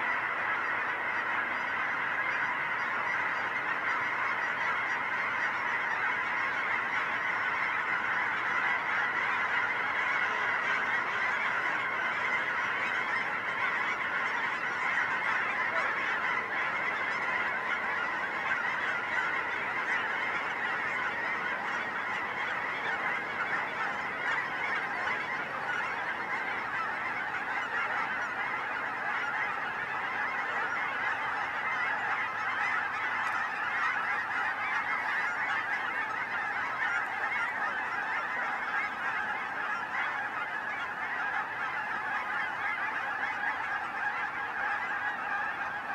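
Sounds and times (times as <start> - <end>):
geese honking: 0.0 - 45.9.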